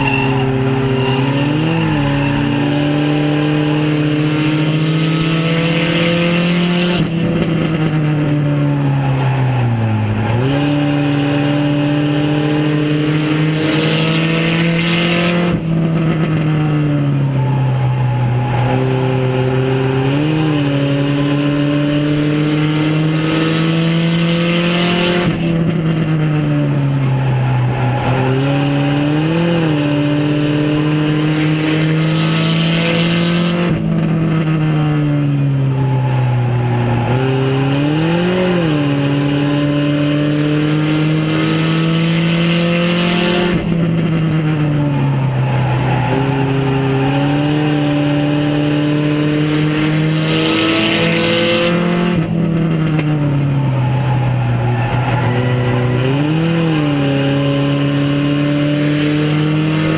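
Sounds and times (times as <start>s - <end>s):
race car engine under load: 0.0s - 59.9s.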